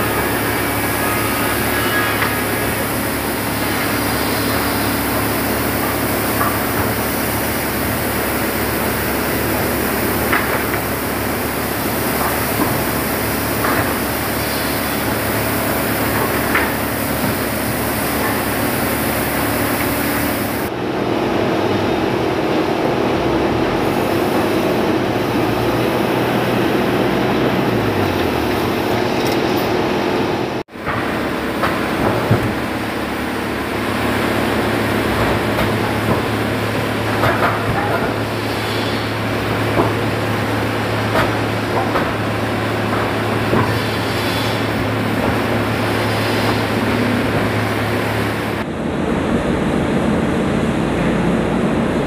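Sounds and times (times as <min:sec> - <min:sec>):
forklift engine running: 0:00.0 - 0:52.0.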